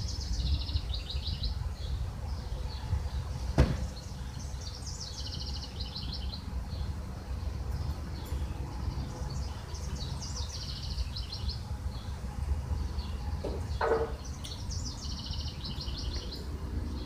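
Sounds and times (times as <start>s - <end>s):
small birds trilling: 0.0s - 17.0s.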